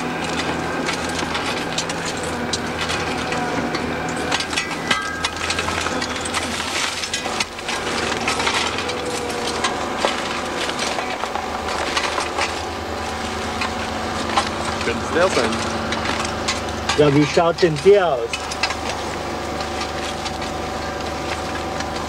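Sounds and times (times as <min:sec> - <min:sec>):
engine humming: 0:00.0 - 0:22.0
rubbish clattering: 0:00.0 - 0:22.0.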